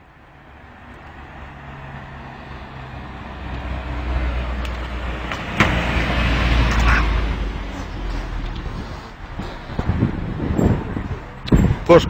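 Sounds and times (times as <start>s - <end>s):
light truck engine passing by: 0.0s - 12.0s.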